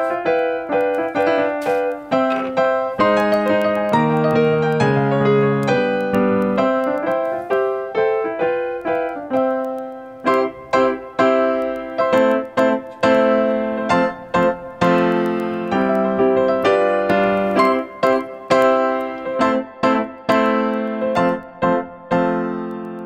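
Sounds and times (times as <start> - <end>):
lively piano piece: 0.0 - 23.0.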